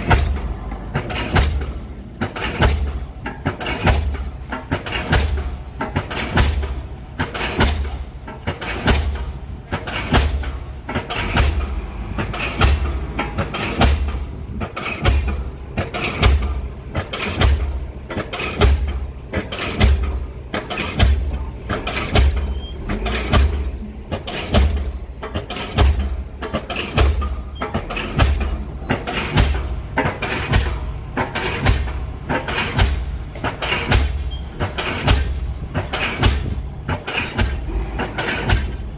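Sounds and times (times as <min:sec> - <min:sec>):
pile hammer blows: 0:00.0 - 0:38.9.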